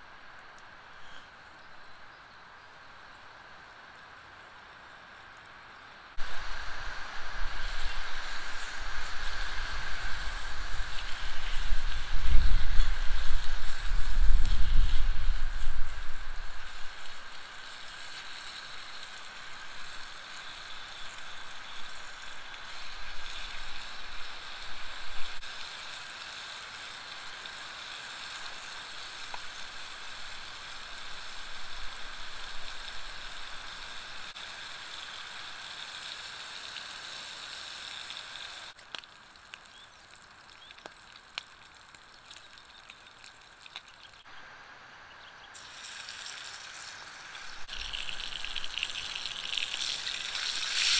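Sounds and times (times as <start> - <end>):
meat sizzling in a skillet: 6.2 - 44.3, 45.6 - 50.9.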